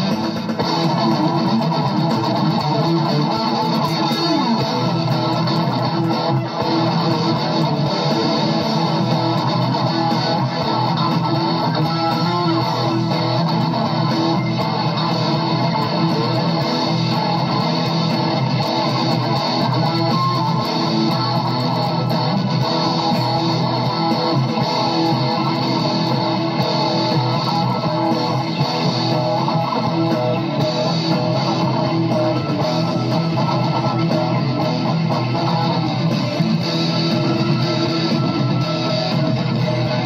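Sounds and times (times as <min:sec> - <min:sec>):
electric guitar playing: 0:00.0 - 0:40.0.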